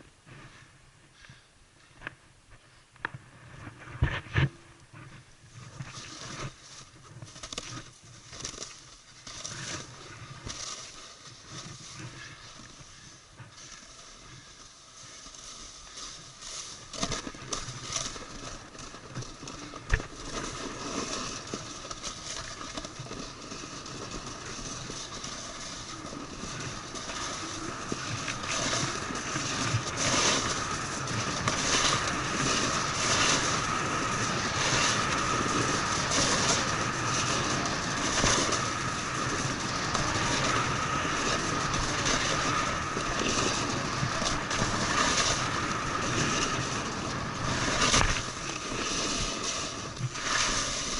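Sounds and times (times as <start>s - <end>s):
snowboard scraping over snow: 3.2s - 50.9s.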